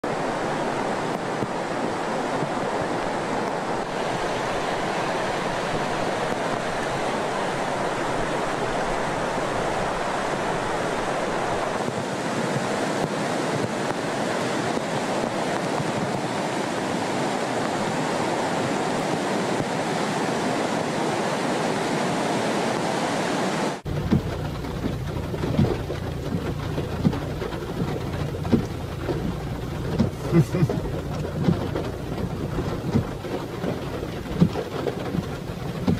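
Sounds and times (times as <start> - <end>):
rushing water: 0.0 - 35.9
wind: 0.0 - 35.9.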